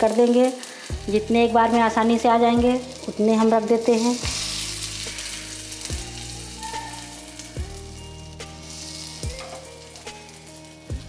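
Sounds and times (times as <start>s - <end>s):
food sizzling in hot oil: 0.0s - 11.0s
low background music: 0.0s - 11.0s.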